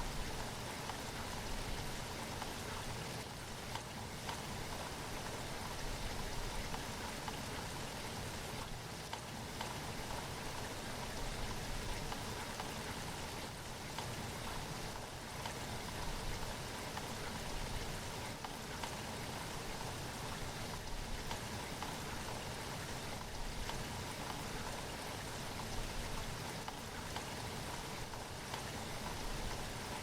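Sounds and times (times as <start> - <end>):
rain drops ticking on a surface: 0.0 - 30.0.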